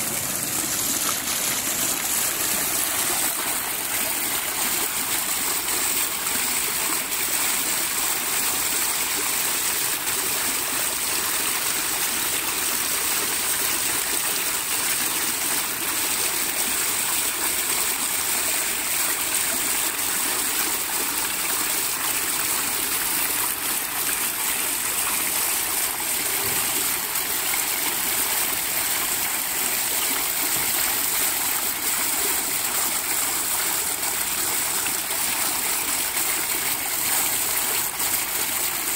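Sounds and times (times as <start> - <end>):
fountain water rushing: 0.0 - 38.9.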